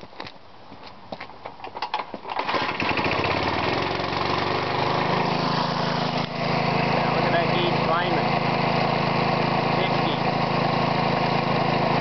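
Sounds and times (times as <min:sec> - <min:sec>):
air compressor engine running: 0:02.2 - 0:12.0.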